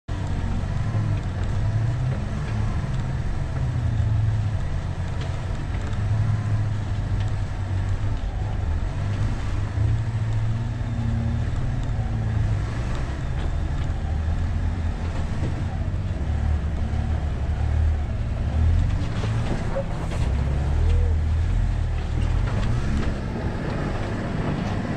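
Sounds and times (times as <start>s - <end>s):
engine running at low revs: 0.1s - 24.9s.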